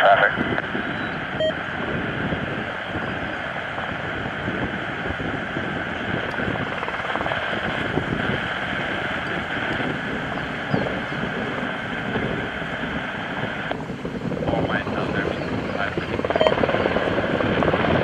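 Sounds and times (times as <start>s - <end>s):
helicopter in flight: 0.0s - 18.0s.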